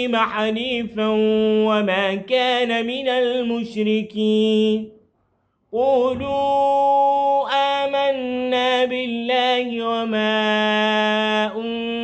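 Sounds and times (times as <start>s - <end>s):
man reciting melodically: 0.0s - 5.0s, 5.7s - 12.0s.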